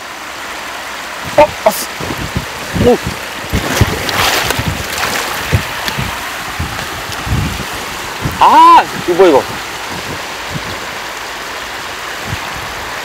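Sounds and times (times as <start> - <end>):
river water rushing: 0.0 - 13.0
wind buffeting microphone: 1.2 - 13.0.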